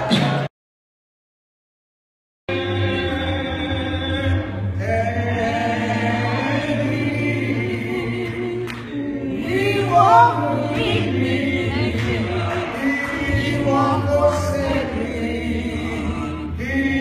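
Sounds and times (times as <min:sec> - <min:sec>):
choir singing a cappella: 0:02.5 - 0:17.0.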